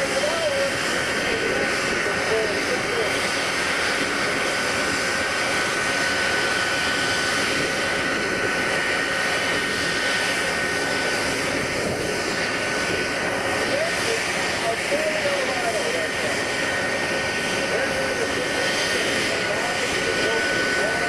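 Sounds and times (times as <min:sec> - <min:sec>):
jet engines rushing with high whine: 0:00.0 - 0:21.0.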